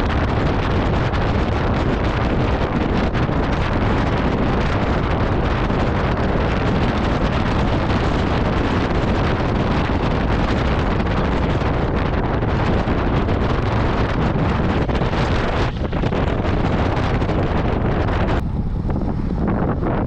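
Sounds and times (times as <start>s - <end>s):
wind blowing on microphone: 0.0s - 20.0s.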